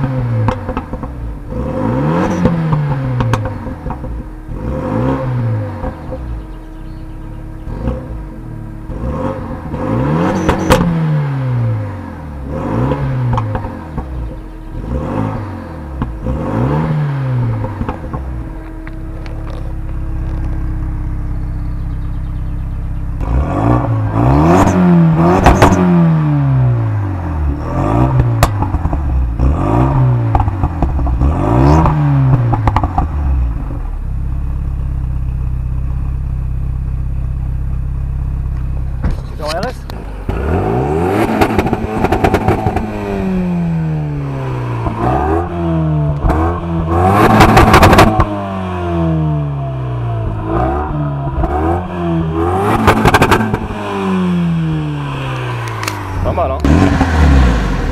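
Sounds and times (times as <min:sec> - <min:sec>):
car engine idling: 0:00.0 - 0:57.9
car engine revving: 0:00.0 - 0:57.9
exhaust cracks: 0:00.0 - 0:57.9.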